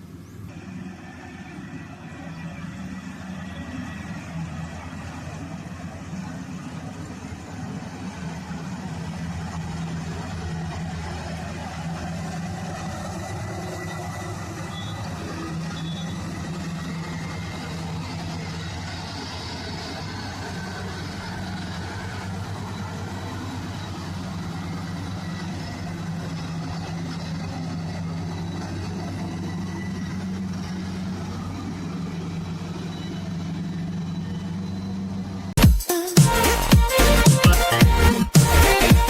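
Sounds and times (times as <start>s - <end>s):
combine harvester engine humming: 0.0s - 35.6s, 36.2s - 39.0s.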